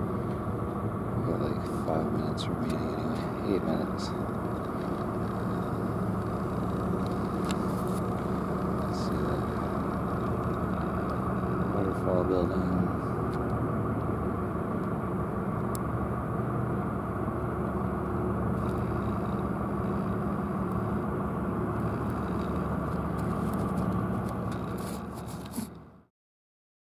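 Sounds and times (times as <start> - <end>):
vehicle engine running: 0.0 - 26.1.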